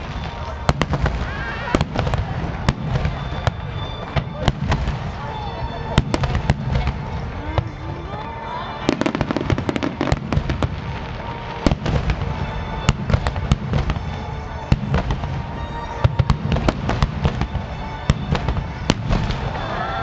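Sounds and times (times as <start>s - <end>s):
underwater fireworks bangs: 0.0s - 7.9s, 8.8s - 20.0s.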